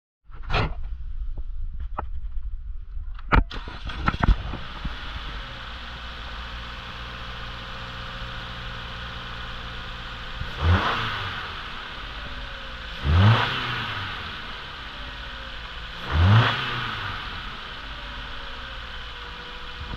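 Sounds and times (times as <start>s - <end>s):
car engine revving: 3.5s - 19.9s
car engine starting and idling: 3.5s - 19.9s.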